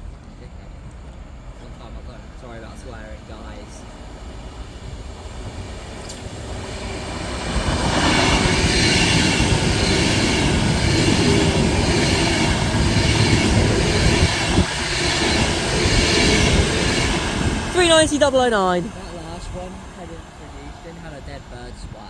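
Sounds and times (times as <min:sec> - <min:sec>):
electric train passing at speed: 0:02.2 - 0:17.7, 0:18.8 - 0:22.0.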